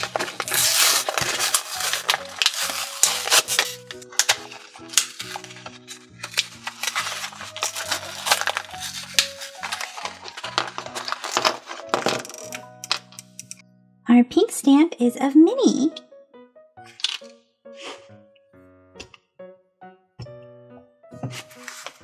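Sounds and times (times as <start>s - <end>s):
light background music: 0.0s - 22.0s.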